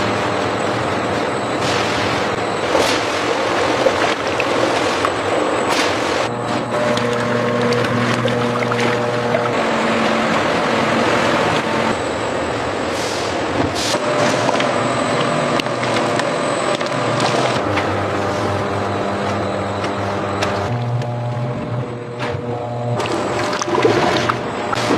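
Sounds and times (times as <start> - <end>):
machinery running: 0.0 - 24.9.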